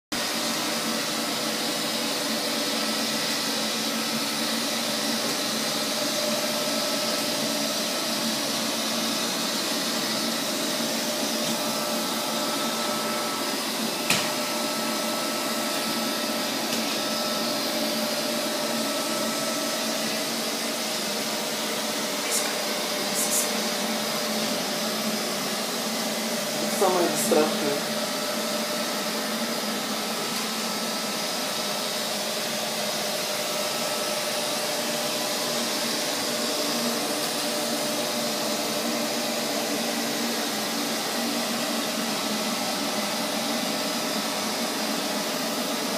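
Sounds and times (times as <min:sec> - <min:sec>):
robot vacuum cleaner running: 0:00.2 - 0:45.9.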